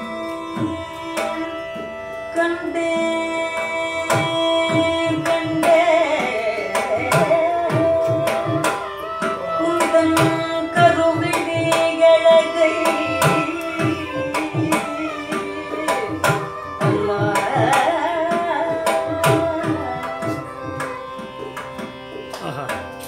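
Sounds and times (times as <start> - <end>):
woman singing: 0.0 - 21.4
violin: 0.0 - 23.0.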